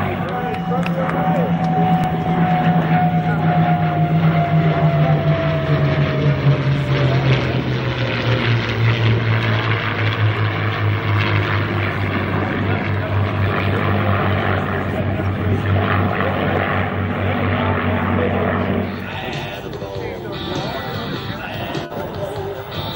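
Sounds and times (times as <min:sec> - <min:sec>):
propeller plane flying past: 0:00.0 - 0:22.9.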